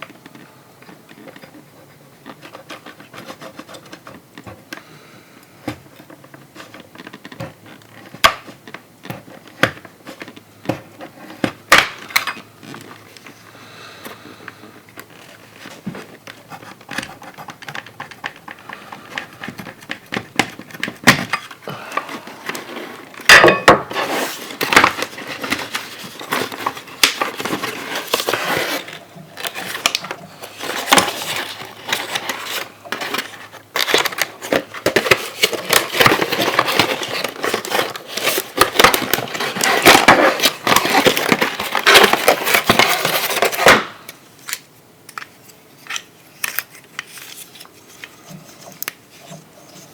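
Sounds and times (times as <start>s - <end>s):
packaging crackling and rustling: 0.0s - 4.9s, 5.8s - 13.6s, 14.7s - 49.9s.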